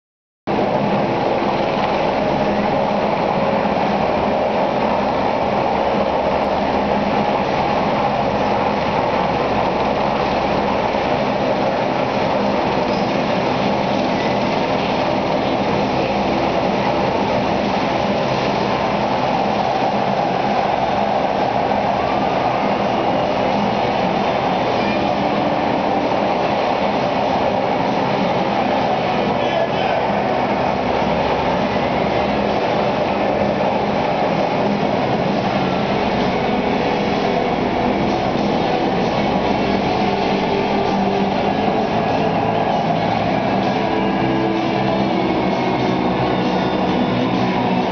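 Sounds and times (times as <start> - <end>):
helicopter engine and rotor drone: 0.5 - 47.9.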